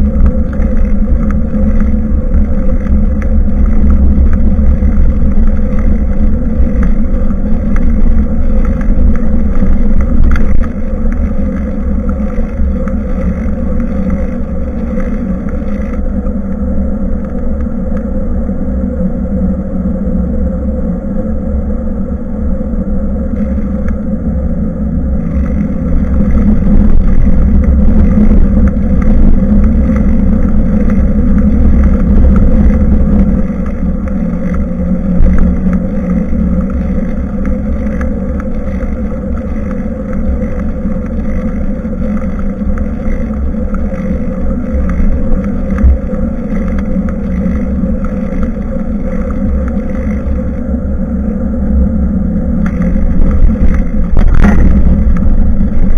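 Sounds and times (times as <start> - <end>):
ride rumble: 0.0 - 55.9
wind buffeting microphone: 0.0 - 55.9.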